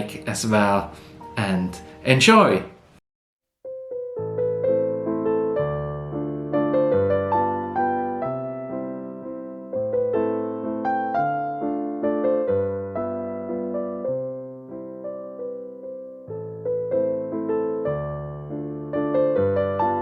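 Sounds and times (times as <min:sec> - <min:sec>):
slow gentle solo piano: 0:03.7 - 0:20.0.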